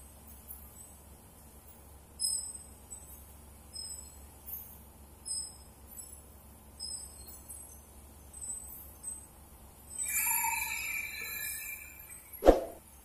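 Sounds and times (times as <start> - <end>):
high metallic ringing tone: 0.0 - 13.0.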